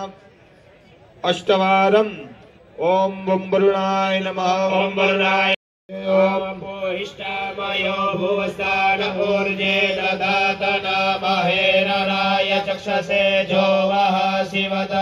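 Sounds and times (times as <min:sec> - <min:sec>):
men chanting over loudspeakers: 0:01.2 - 0:15.0.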